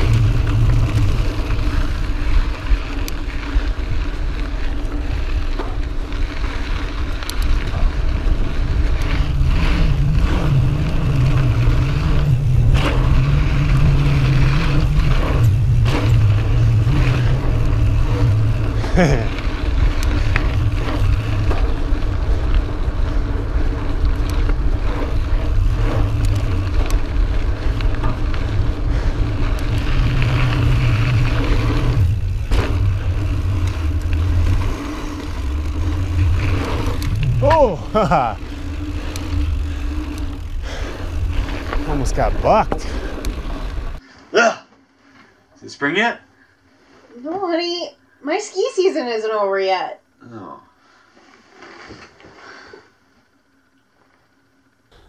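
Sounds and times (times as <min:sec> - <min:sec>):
bike tyres on dirt: 0:00.0 - 0:50.2, 0:50.8 - 0:55.0.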